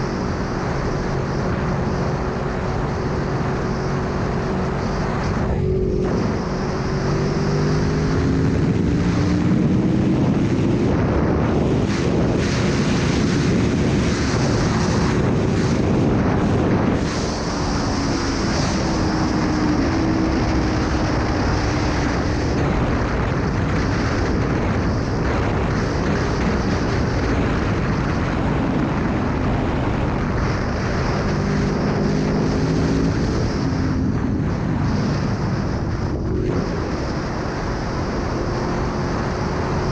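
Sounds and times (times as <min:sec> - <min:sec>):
heavy wind noise: 0:00.0 - 0:39.9
motorcycle engine running: 0:00.0 - 0:39.9.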